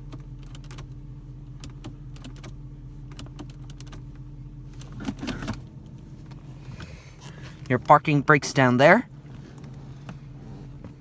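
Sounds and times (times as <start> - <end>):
car engine idling: 0.0 - 11.0
interior control clicks: 0.0 - 11.0.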